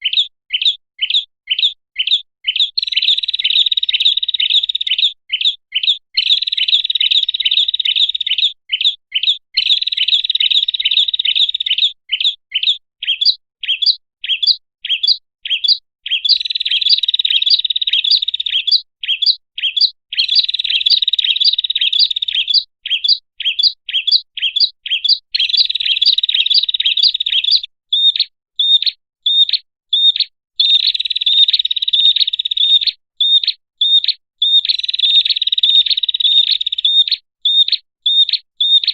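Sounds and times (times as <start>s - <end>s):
bird song chattering notes: 0.0s - 38.9s.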